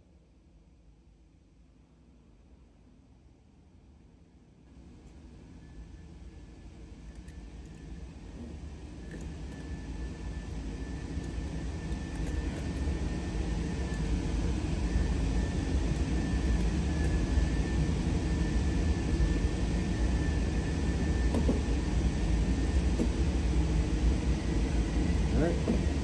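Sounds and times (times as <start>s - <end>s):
faint high whine: 4.6s - 26.0s.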